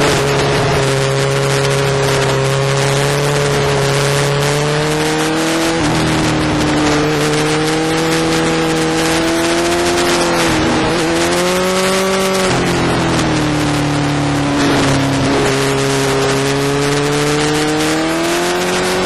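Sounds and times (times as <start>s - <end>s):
motorcycle engine running: 0.0s - 19.0s
wind rush: 0.0s - 19.0s.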